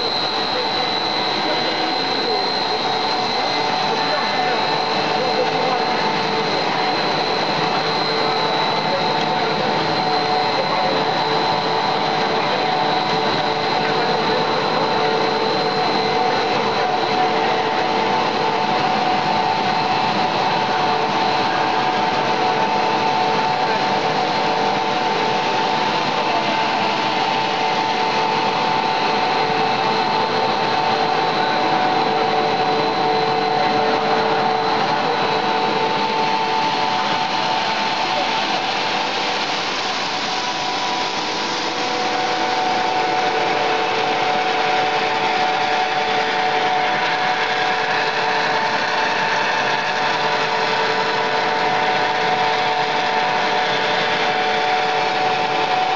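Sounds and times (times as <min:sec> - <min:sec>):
steady machine whine: 0:00.0 - 0:55.9.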